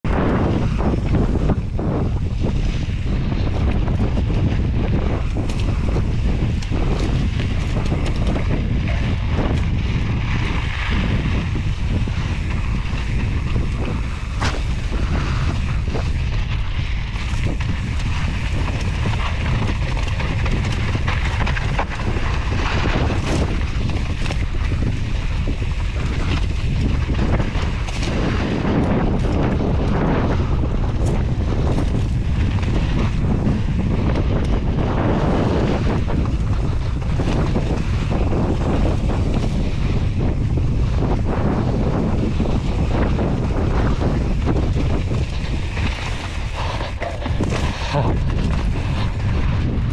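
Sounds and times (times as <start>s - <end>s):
wind rushing over microphone: 0.0s - 49.9s
bike clicks and rattles: 0.1s - 49.9s
tyres rolling over dirt: 0.1s - 49.9s.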